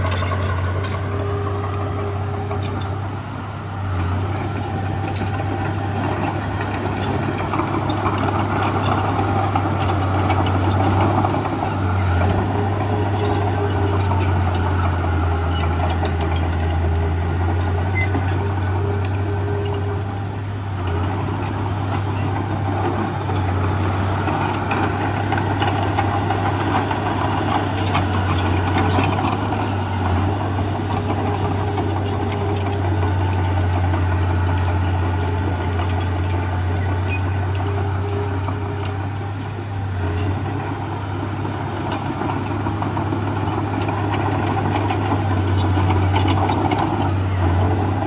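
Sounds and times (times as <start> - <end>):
heavy diesel engine humming: 0.0 - 48.0.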